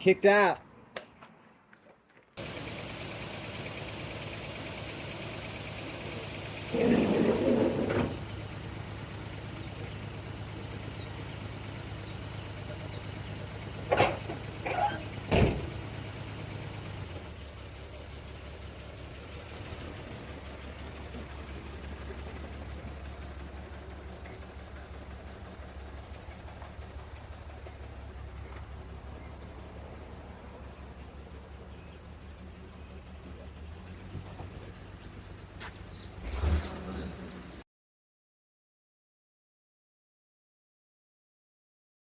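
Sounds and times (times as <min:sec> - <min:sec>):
car engine idling: 0:02.4 - 0:37.6.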